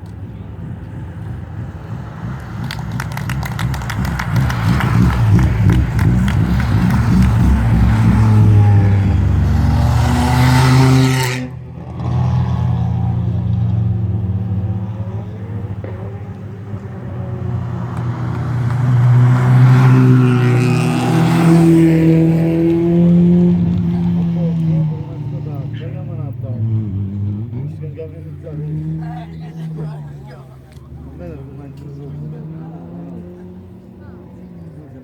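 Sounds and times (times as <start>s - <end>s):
car engines passing: 0.0s - 35.0s.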